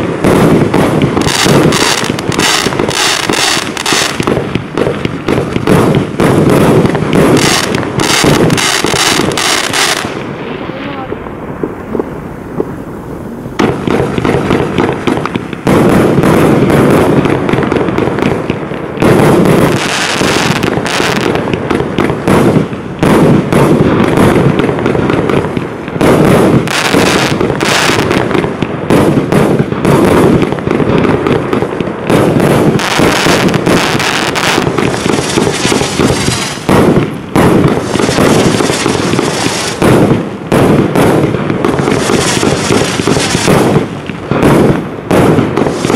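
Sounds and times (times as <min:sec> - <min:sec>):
fireworks firing rapidly: 0:00.0 - 0:45.9.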